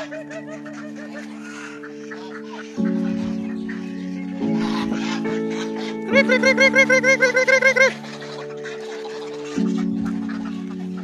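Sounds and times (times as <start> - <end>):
chickens clucking: 0.0 - 11.0
music with sustained chords: 0.0 - 11.0.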